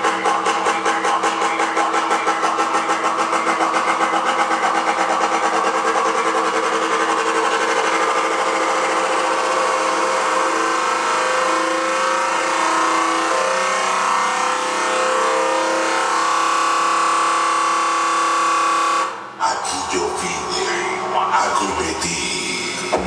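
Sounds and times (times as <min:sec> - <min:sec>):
loud distorted car audio: 0:00.0 - 0:23.0.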